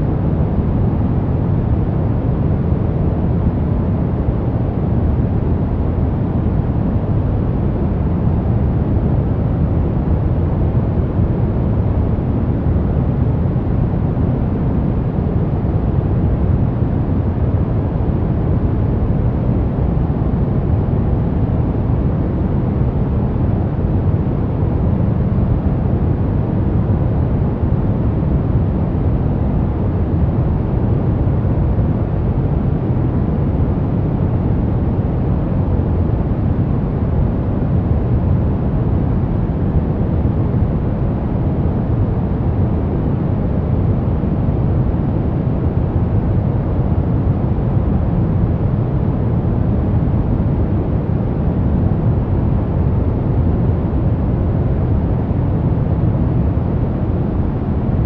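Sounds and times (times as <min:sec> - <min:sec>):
deep steady noise rush: 0:00.0 - 0:58.0.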